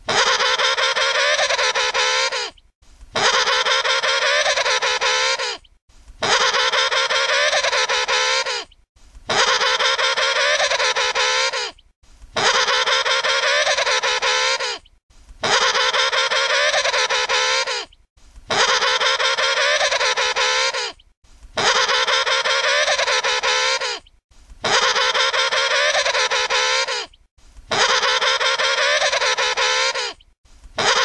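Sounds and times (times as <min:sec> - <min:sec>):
penguin trumpeting call: 0:00.1 - 0:02.5, 0:03.2 - 0:05.6, 0:06.2 - 0:08.7, 0:09.3 - 0:11.8, 0:12.4 - 0:14.8, 0:15.4 - 0:17.9, 0:18.5 - 0:21.0, 0:21.6 - 0:24.0, 0:24.6 - 0:27.1, 0:27.7 - 0:30.2, 0:30.8 - 0:31.0.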